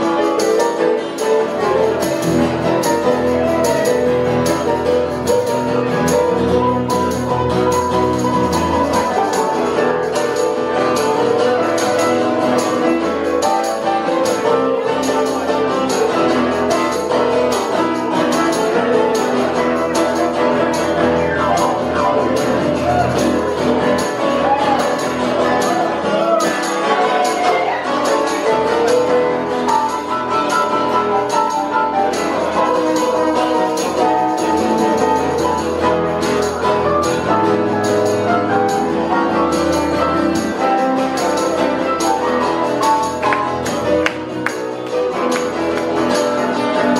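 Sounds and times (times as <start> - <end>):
live dance music: 0.0 - 46.9
jingling percussion: 0.2 - 46.9.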